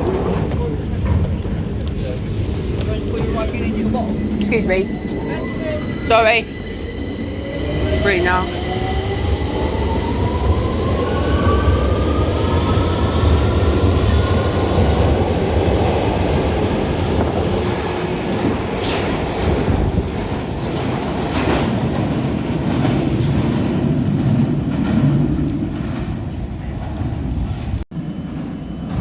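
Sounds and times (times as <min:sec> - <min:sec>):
wheels rumbling on rails: 0:00.0 - 0:29.0.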